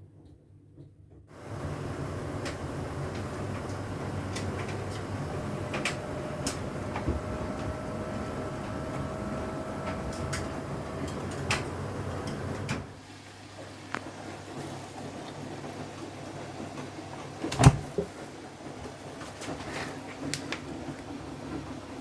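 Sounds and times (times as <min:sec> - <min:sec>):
laundry machine running with whine: 0:01.3 - 0:22.0.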